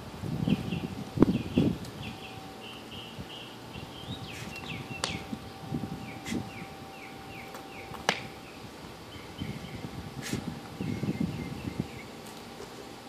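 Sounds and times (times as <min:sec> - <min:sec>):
bird chirping: 0:00.4 - 0:12.3.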